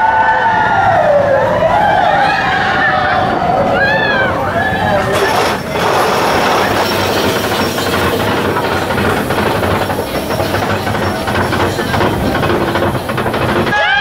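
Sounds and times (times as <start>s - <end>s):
coaster cars clattering: 0.0s - 14.0s
roller coaster rushing on track: 0.0s - 14.0s.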